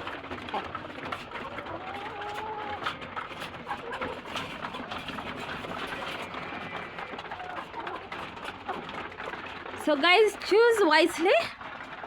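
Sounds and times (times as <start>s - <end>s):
hens clucking: 0.0s - 12.0s
beaks pecking at feed: 0.1s - 10.9s.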